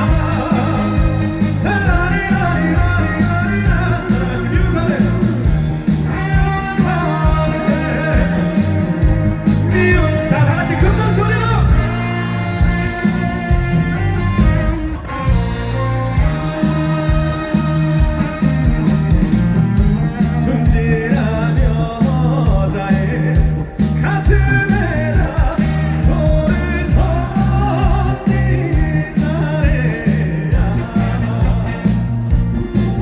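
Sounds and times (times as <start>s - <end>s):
man singing: 0.0s - 14.1s, 19.8s - 33.0s
backing band playing: 0.0s - 33.0s.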